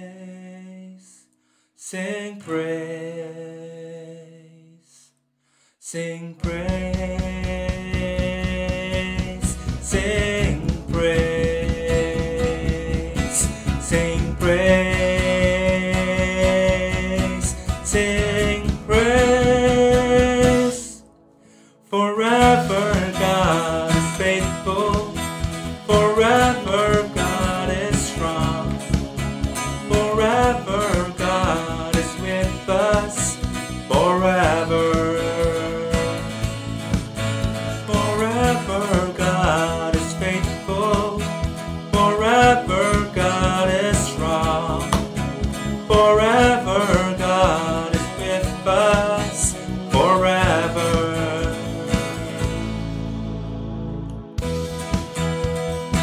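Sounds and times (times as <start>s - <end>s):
man singing a worship song: 0.0s - 5.1s, 5.8s - 21.1s, 21.8s - 36.7s, 37.6s - 52.8s
band playing a steady beat: 6.4s - 20.8s, 22.4s - 53.2s, 54.4s - 56.0s.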